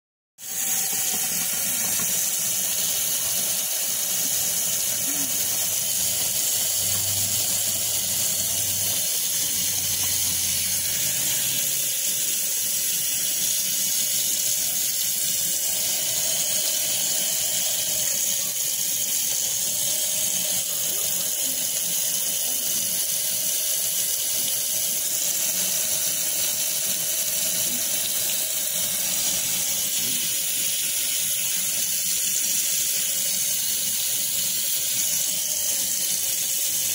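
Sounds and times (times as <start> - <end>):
tap water running into steel sink: 0.4 - 36.9.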